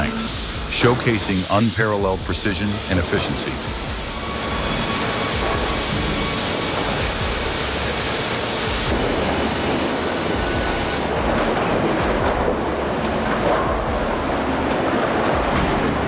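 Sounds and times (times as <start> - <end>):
sawmill machinery rumbling clatter: 0.0 - 16.0.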